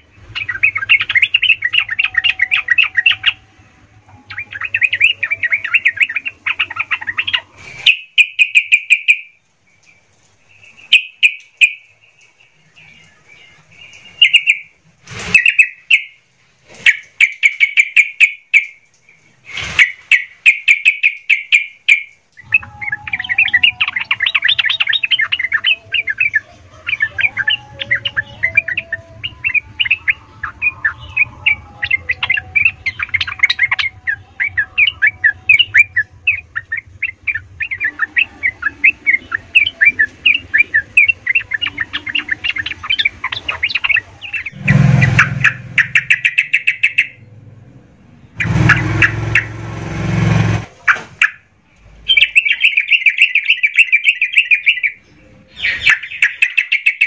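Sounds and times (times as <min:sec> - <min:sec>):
birds singing chattering notes: 0:00.0 - 0:03.5, 0:04.1 - 0:16.2, 0:16.8 - 0:47.4, 0:48.1 - 0:57.0.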